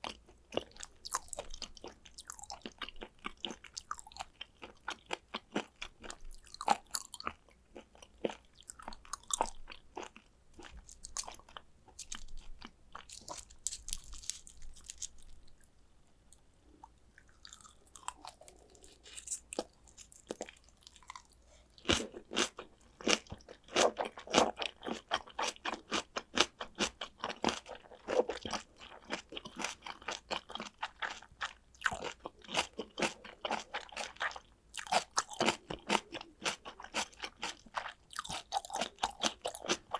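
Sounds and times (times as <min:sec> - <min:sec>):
wet chewing clicks and smacks: 0:00.0 - 0:15.7, 0:17.2 - 0:39.9.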